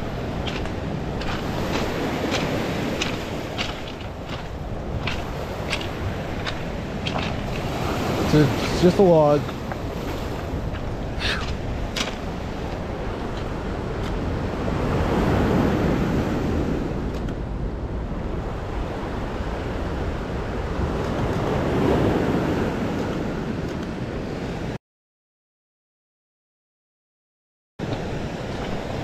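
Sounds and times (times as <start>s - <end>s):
surf washing on a cobble shore: 0.0s - 24.8s, 27.8s - 29.0s.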